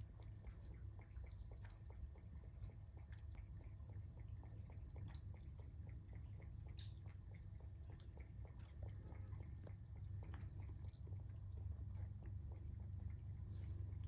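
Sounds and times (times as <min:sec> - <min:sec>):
cat chewing food: 0:00.0 - 0:14.0
low steady hum: 0:00.0 - 0:14.0.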